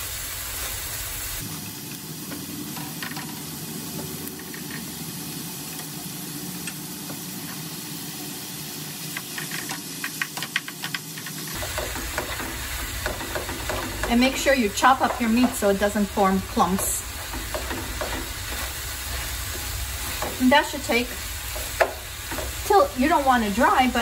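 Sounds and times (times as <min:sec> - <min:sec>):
meat and vegetables sizzling in pan: 0:00.0 - 0:24.0.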